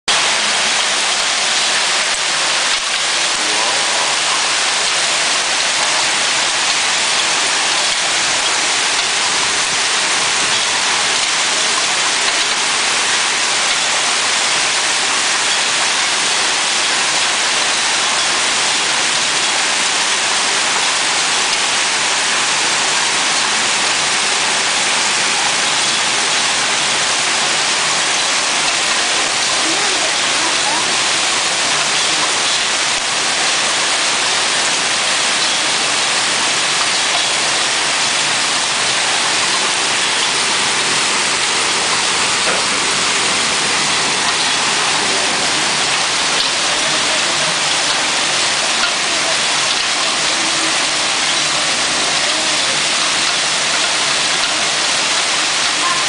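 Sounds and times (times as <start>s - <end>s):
hail and rain falling hard: 0.1s - 56.0s.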